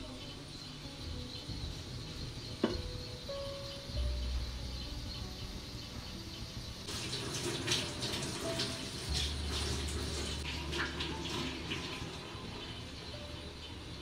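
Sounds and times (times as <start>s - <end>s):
hissing crackling cooking: 0.0s - 14.0s.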